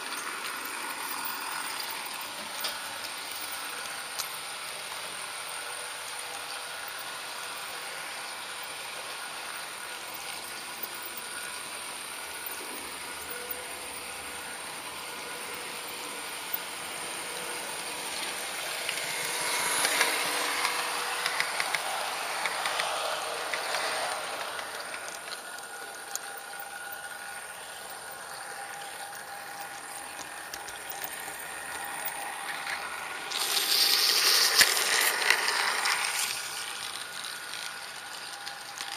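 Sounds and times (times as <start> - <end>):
model train motor whirring: 0.0 - 38.9
wheels clicking on track: 0.0 - 38.9.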